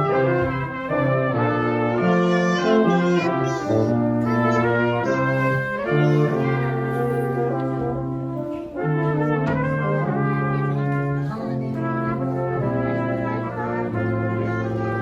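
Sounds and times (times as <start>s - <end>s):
brass quartet playing chords: 0.0s - 15.0s.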